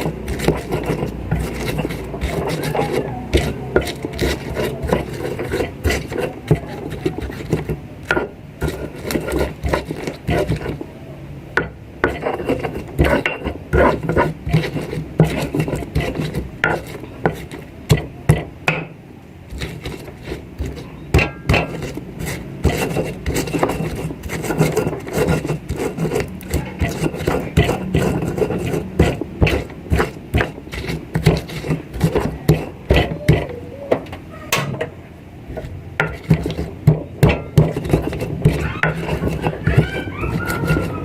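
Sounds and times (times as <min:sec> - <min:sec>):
utensils scraping cookware: 0:00.0 - 0:10.9, 0:11.6 - 0:18.9, 0:19.5 - 0:41.0
steady low hum: 0:00.0 - 0:41.0.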